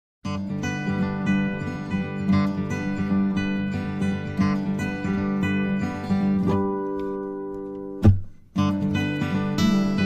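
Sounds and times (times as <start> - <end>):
plucked strings music: 0.3 - 10.0.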